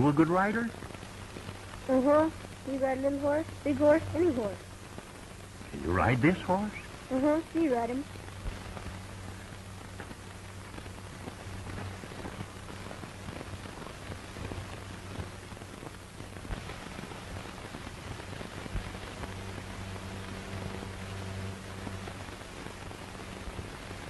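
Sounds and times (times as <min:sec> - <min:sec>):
film soundtrack crackle and hiss: 0:00.0 - 0:24.0
low hum: 0:00.0 - 0:24.0.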